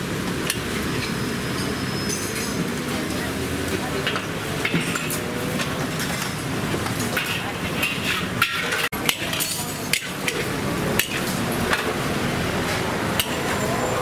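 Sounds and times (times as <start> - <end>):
dishes and utensils clinking: 0.5 - 12.0, 12.6 - 14.0
background chatter: 1.6 - 14.0.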